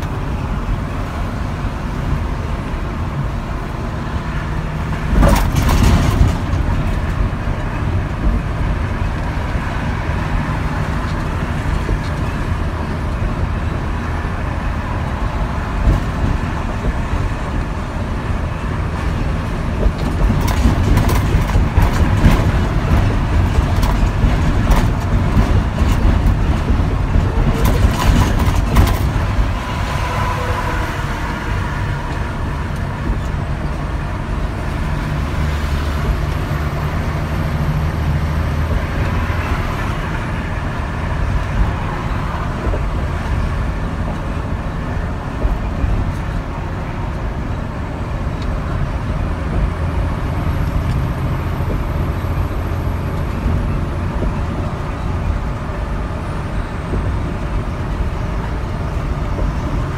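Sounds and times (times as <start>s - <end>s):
diesel truck engine: 0.0s - 59.9s
road noise: 0.0s - 59.9s.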